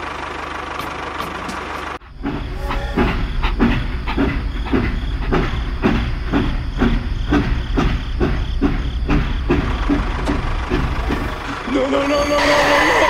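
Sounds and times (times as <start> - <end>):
steady low hum: 2.0 - 13.0.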